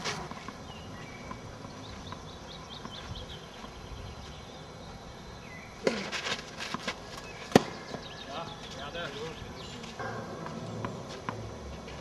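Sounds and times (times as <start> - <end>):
outdoor background noise: 0.0 - 12.0
songbird chirping: 0.2 - 6.1, 6.8 - 12.0.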